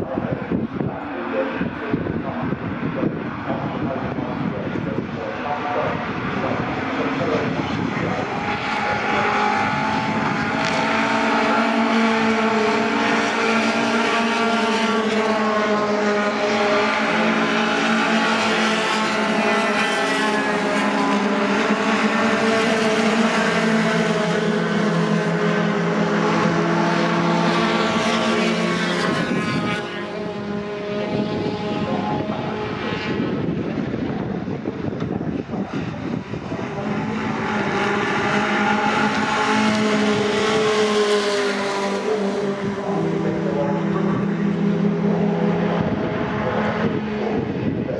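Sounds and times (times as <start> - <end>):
engines droning hum: 0.0 - 47.9.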